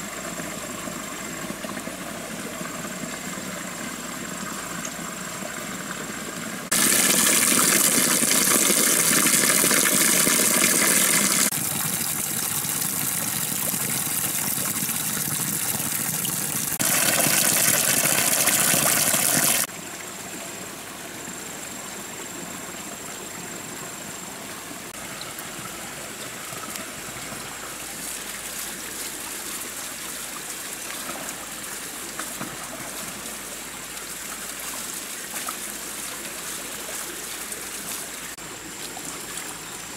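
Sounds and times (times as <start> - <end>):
water pouring and splashing: 0.0 - 19.8, 24.9 - 39.9.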